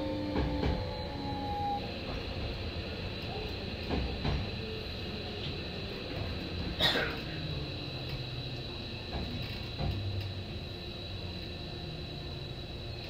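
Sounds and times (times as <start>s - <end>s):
train electrical hum: 0.0s - 13.0s.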